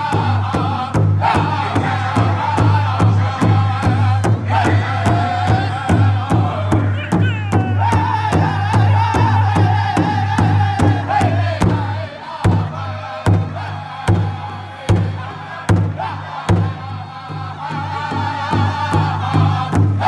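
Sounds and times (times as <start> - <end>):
large hide drum beats: 0.0 - 20.0
men singing in high voices: 0.0 - 20.0.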